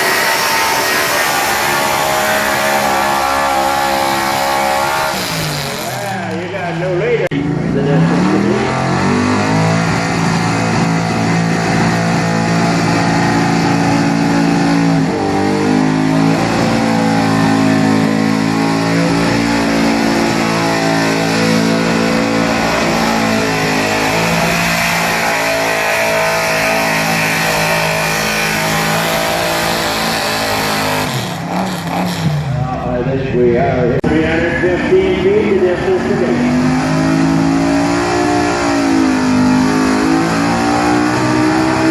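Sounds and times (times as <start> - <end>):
truck engine at full throttle: 0.0 - 41.9.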